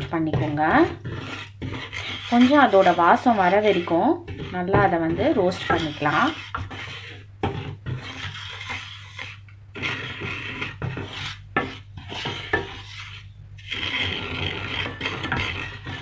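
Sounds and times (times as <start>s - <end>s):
wooden spoon scraping semolina: 0.0s - 16.0s.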